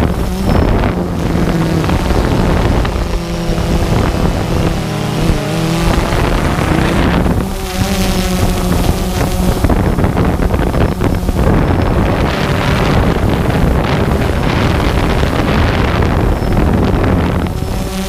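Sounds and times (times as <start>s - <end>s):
drone propellers humming: 0.0s - 18.0s
wind buffeting microphone: 0.0s - 18.0s.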